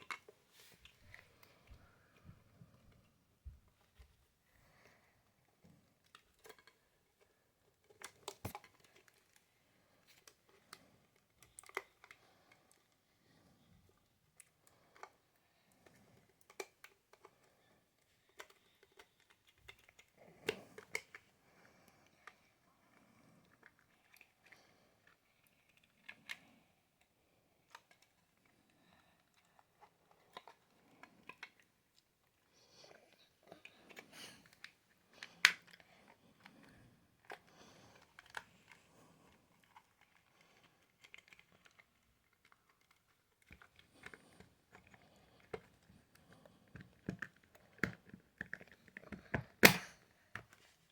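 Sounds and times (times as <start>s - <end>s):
faint clicks and taps: 0.0s - 50.9s.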